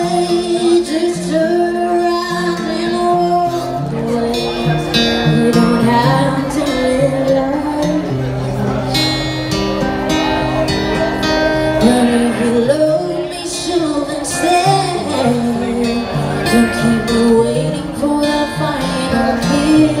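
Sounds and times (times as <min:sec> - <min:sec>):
person singing: 0:00.0 - 0:09.2, 0:11.6 - 0:20.0
acoustic guitar chords: 0:00.0 - 0:20.0.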